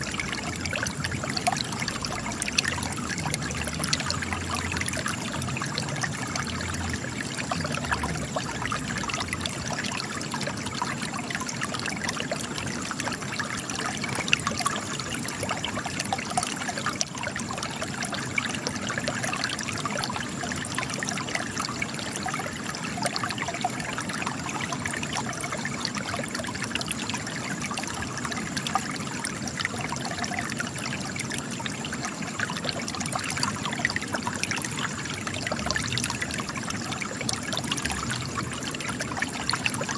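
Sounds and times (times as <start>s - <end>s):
spring water trickling over rock: 0.0s - 39.9s.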